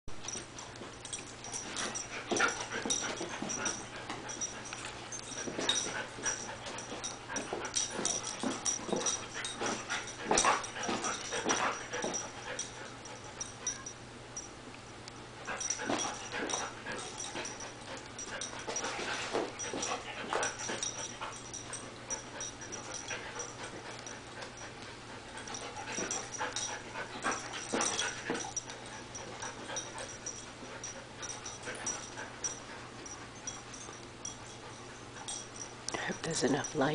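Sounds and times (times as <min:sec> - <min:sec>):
dog play noises: 0:00.2 - 0:14.6, 0:15.2 - 0:36.9.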